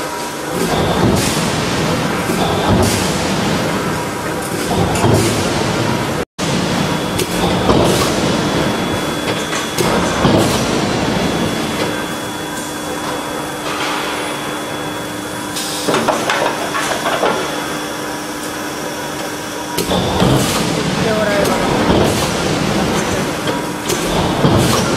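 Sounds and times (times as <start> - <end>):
forging machinery running: 0.0 - 24.9
steady machine hum: 0.0 - 24.9.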